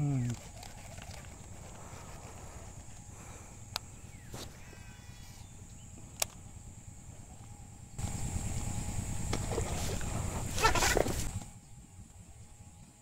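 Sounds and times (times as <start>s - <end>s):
high-pitched insect buzz: 0.0s - 11.7s
low rumbling noise: 1.0s - 12.8s.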